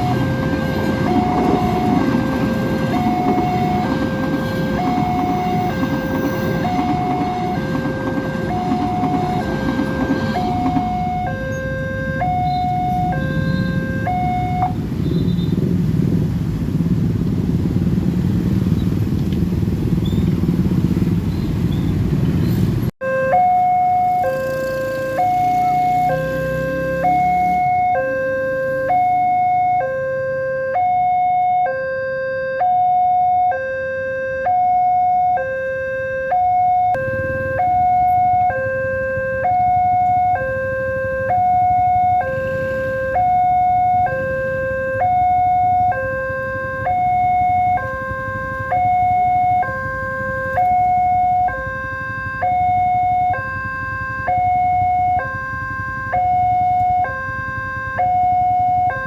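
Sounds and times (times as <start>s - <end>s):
two-tone crossing alarm: 0.0s - 15.0s, 23.0s - 59.0s.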